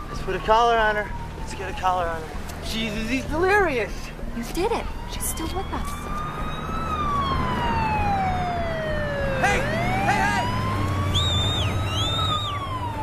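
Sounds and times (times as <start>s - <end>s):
ambulance siren wailing: 0.0s - 13.0s.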